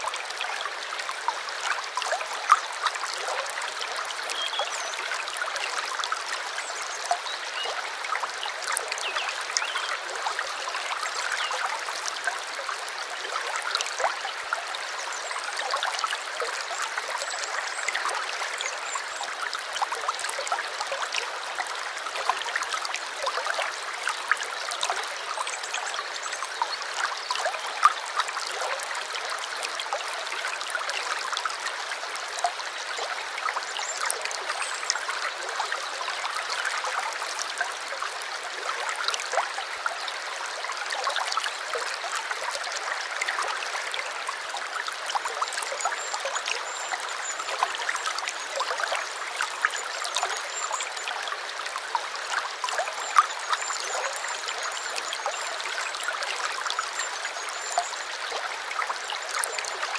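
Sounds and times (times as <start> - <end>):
stream trickling and gurgling: 0.0 - 59.9.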